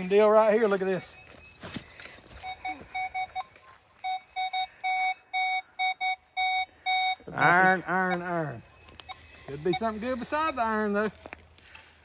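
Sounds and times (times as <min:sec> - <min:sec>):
metal detector beeping: 0:00.8 - 0:10.6.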